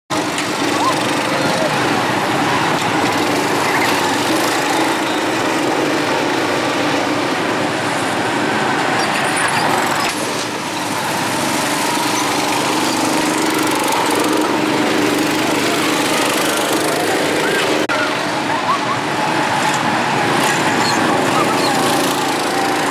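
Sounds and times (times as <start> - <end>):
go-kart engines droning: 0.1 - 22.9.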